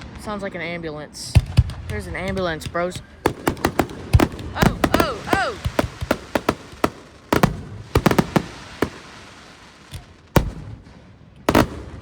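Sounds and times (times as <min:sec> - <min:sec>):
fireworks bursting with bangs: 0:01.3 - 0:12.0.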